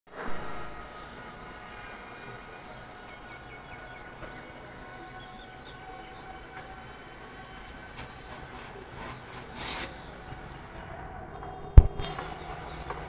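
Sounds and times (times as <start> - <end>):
small birds chirping: 0.3 - 13.0.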